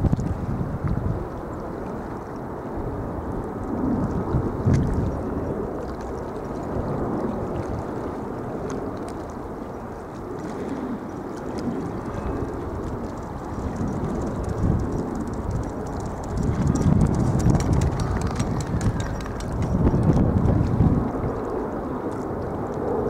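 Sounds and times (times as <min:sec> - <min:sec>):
water lapping and sloshing: 0:00.0 - 0:23.0
wind buffeting microphone: 0:00.0 - 0:23.0.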